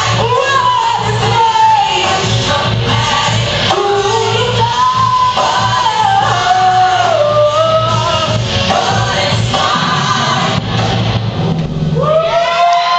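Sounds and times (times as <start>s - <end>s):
steady bass line: 0.0s - 12.9s.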